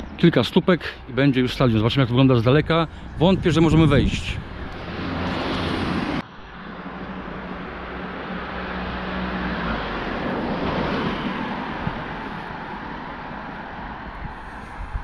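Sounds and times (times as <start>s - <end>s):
vehicle passing: 2.9s - 15.0s.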